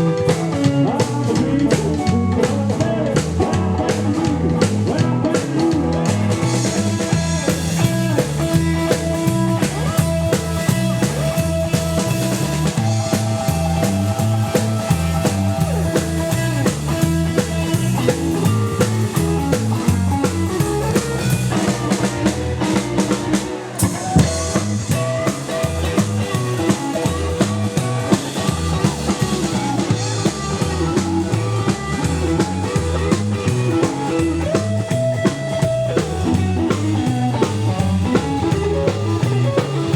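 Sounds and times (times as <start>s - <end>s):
double bass: 0.0s - 39.9s
drum kit beat: 0.0s - 39.9s
electric lead guitar: 0.0s - 39.9s.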